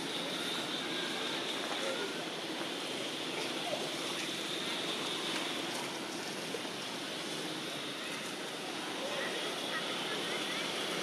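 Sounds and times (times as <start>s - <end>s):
constant high drone: 0.0s - 11.0s.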